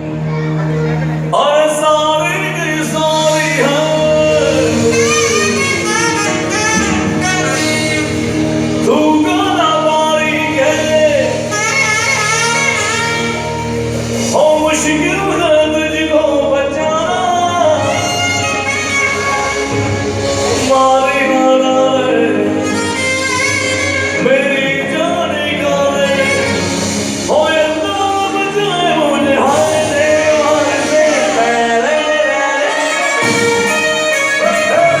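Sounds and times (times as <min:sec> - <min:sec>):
live band music: 0:00.0 - 0:35.0
man singing: 0:01.2 - 0:35.0.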